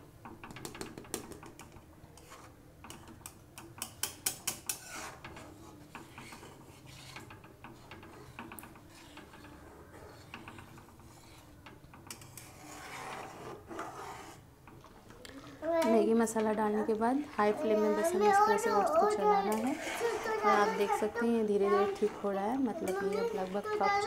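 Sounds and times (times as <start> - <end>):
metal spatula scraping metal pot: 2.2 - 14.5, 16.1 - 24.0.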